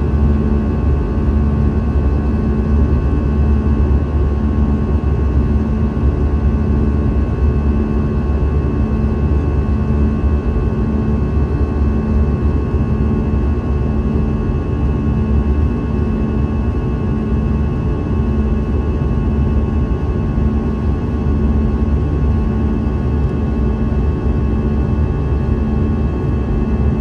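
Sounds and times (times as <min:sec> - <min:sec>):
aircraft engine drone: 0:00.0 - 0:27.0.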